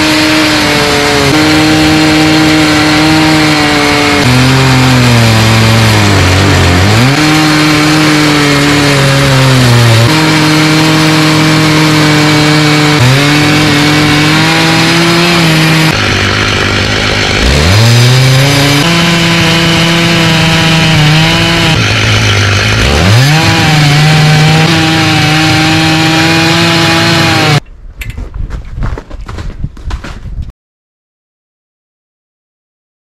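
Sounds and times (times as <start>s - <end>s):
chainsaw cutting log: 0.0s - 27.6s.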